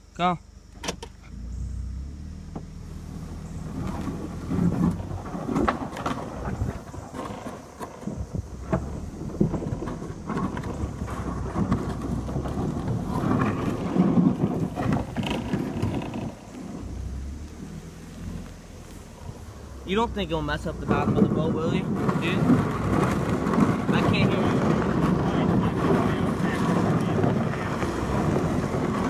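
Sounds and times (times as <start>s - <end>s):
car rumbling on dirt track: 0.0s - 29.0s
wind buffeting phone: 3.2s - 29.0s
crackles and clicks from ground: 3.4s - 29.0s.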